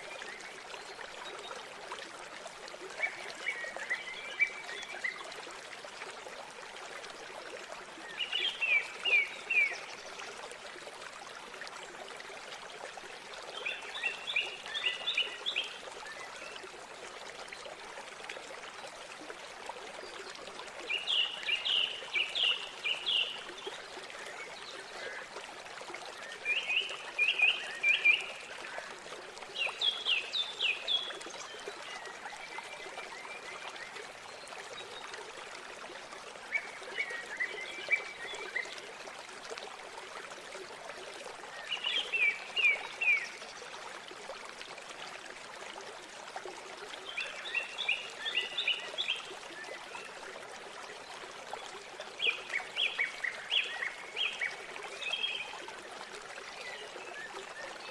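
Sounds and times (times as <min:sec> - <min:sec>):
river water flowing: 0:00.0 - 0:57.9.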